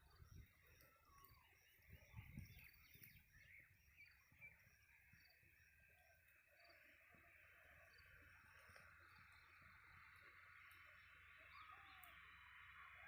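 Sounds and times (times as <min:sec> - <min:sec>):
distant bird calls: 0:00.0 - 0:13.0.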